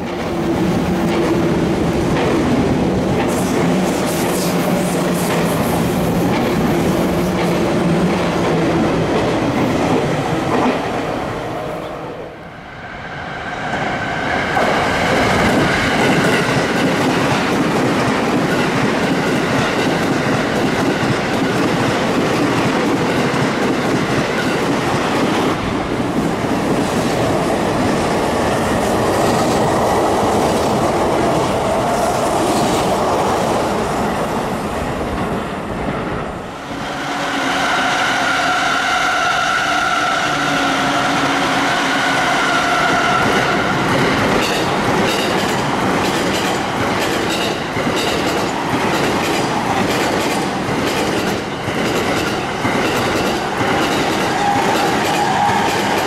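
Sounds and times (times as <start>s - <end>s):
train wheels clattering on rails: 0.0s - 11.0s, 14.6s - 33.4s, 41.0s - 56.0s
train steady high tones: 0.0s - 56.0s.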